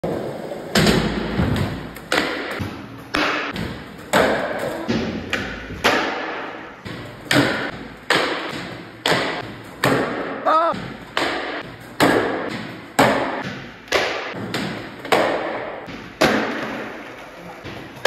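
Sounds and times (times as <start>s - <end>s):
skateboards popping and landing: 0.0s - 18.0s.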